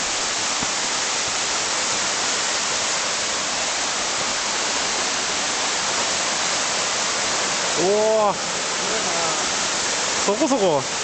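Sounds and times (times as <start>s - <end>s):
waterfall splashing onto rocks: 0.0s - 11.0s.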